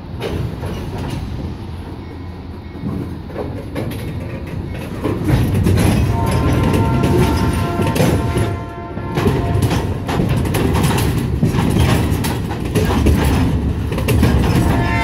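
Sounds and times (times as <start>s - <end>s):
train wheels rumbling on rails: 0.0s - 15.0s
wheels clicking on rail joints: 0.0s - 15.0s.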